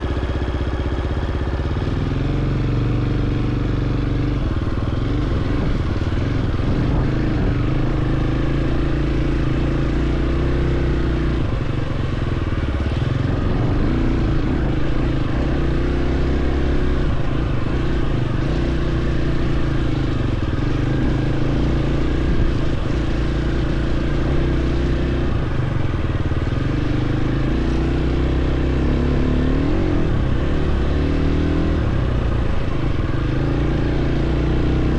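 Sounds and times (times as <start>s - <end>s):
dirt bike engine revving: 1.8s - 34.9s.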